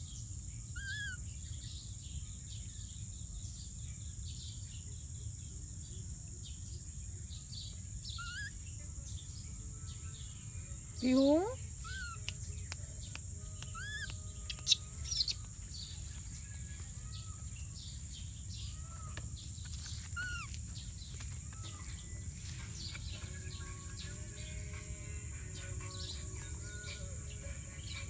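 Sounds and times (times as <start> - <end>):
high insect hiss: 0.0 - 28.0
birds chirping: 0.7 - 1.8, 6.4 - 28.0.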